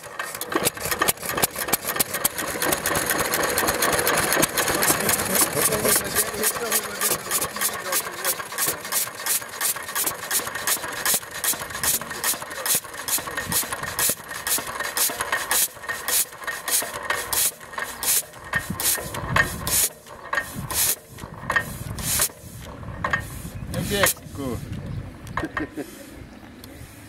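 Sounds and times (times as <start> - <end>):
stationary engine valve clicking: 0.0 - 24.3
deep engine beats: 0.0 - 25.8.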